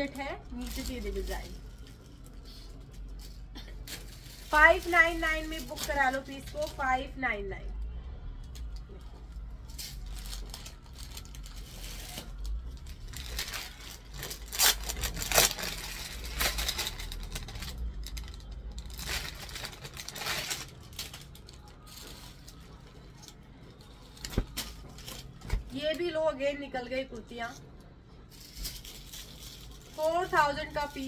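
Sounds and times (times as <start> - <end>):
garments rustling and crinkling: 0.0 - 7.3, 9.0 - 26.6, 28.2 - 31.0.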